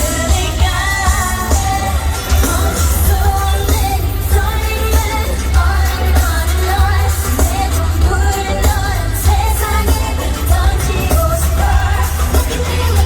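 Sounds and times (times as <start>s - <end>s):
pounding bass: 0.0s - 13.0s
women singing pop song: 0.0s - 13.0s.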